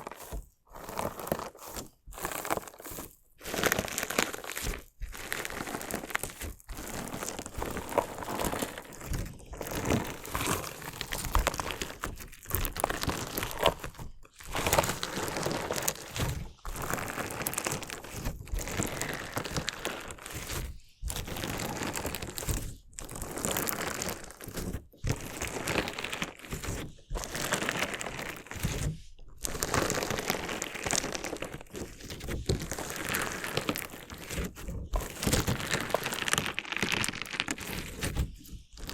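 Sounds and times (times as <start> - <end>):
crunchy slime crackling: 0.0 - 38.9.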